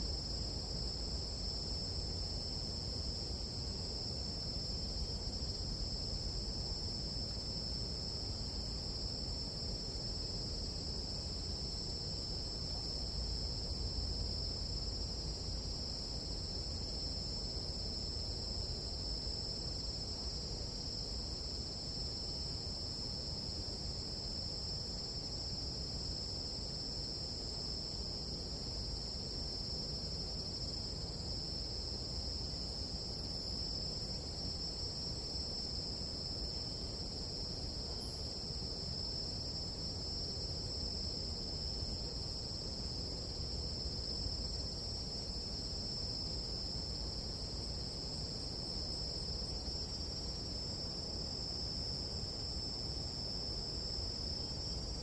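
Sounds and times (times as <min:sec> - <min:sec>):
insects trilling: 0:07.1 - 0:55.0.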